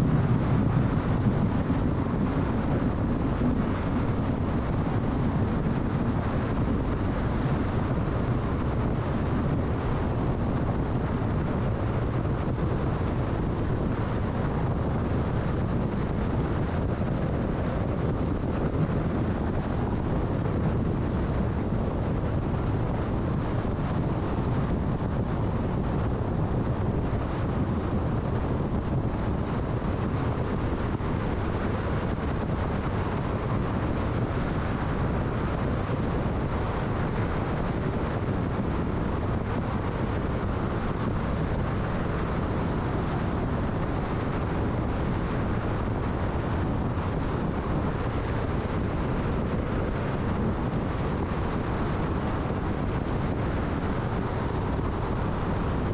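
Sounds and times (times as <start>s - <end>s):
tyre and wind noise: 0.0s - 55.9s.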